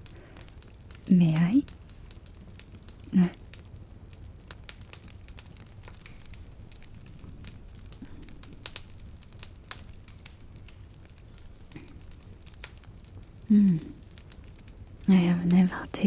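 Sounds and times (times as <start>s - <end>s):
faint crackling and clicks: 0.0s - 16.0s
low steady hum: 0.0s - 16.0s.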